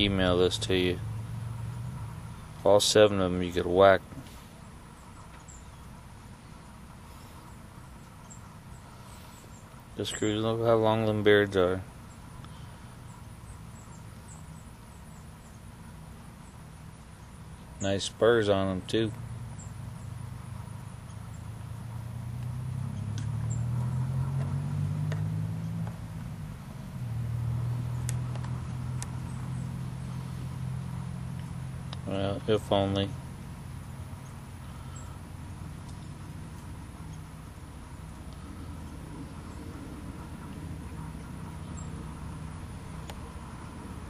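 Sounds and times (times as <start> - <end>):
outdoor background noise: 0.0 - 44.0
vehicle engine humming: 0.0 - 44.0.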